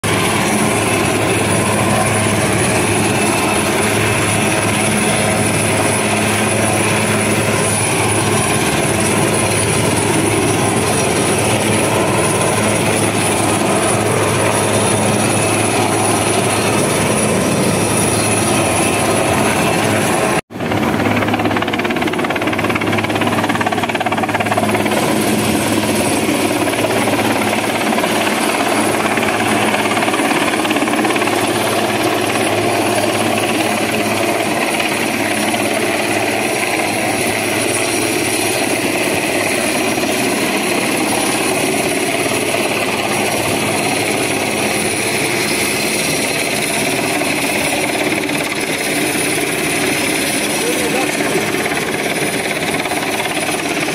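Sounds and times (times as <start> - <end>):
wind: 0.0 - 53.9.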